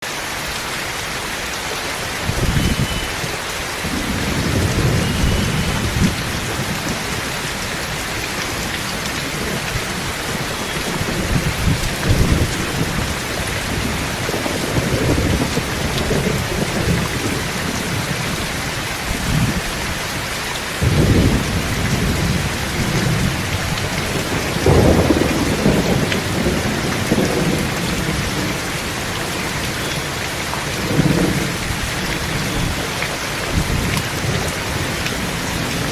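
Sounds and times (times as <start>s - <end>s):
heavy rain falling: 0.0s - 35.9s
thunder rumbling: 2.1s - 20.0s, 20.8s - 30.0s, 30.7s - 35.9s.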